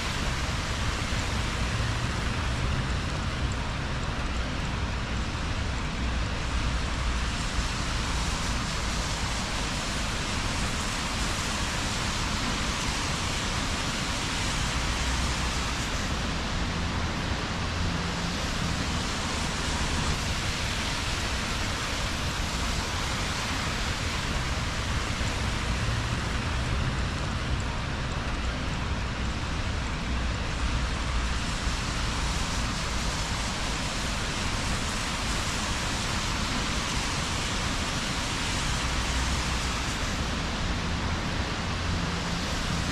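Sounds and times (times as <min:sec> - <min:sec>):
low traffic rumble: 0:00.0 - 0:42.9
rain on wet streets: 0:00.0 - 0:42.9.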